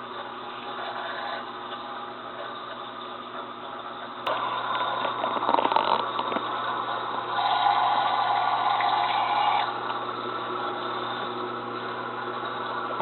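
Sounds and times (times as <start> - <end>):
pump hum: 0.0 - 13.0.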